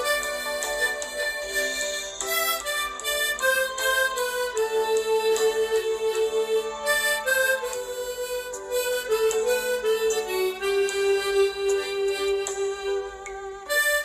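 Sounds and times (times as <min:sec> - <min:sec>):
harmonica playing slow melody: 0:00.0 - 0:14.0.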